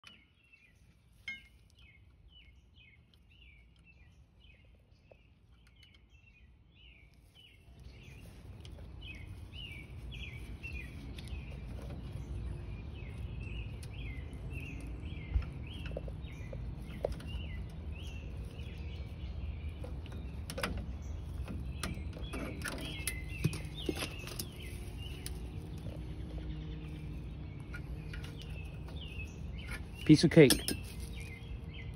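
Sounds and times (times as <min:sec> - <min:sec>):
bird chirping: 0:00.0 - 0:31.9.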